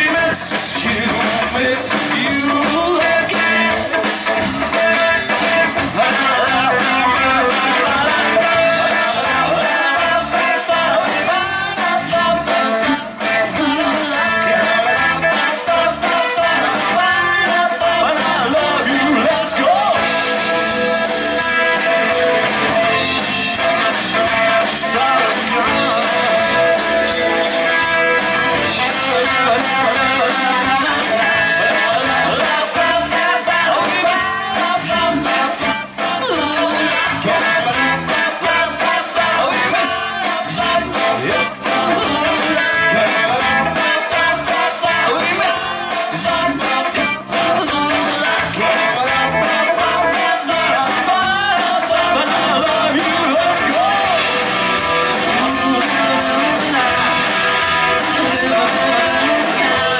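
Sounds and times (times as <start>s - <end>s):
man singing: 0.0s - 20.9s, 22.9s - 59.9s
live rock band playing: 0.0s - 59.9s.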